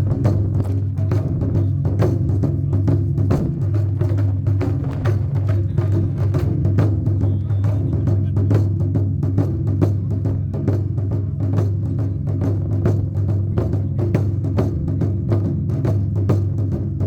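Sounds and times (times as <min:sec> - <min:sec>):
deep drum boom: 0:00.0 - 0:17.0
rapid drum strikes: 0:00.0 - 0:17.0.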